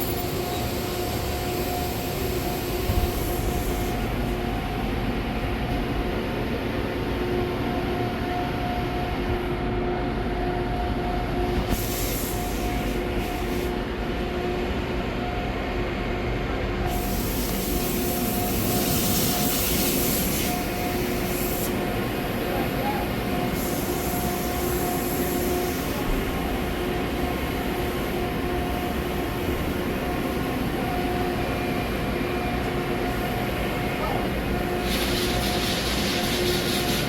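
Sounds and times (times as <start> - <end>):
milling machine whine and rumble: 0.0 - 37.0.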